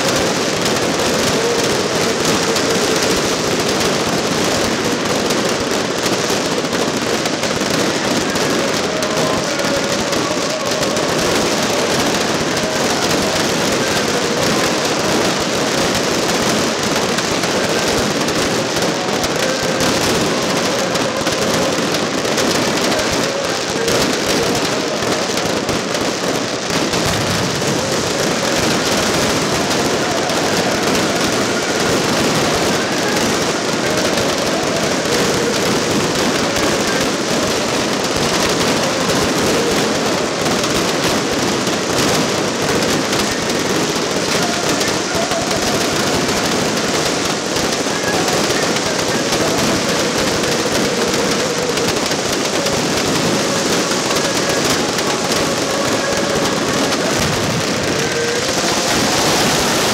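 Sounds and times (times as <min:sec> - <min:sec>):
fireworks crackling and banging: 0:00.0 - 0:59.9.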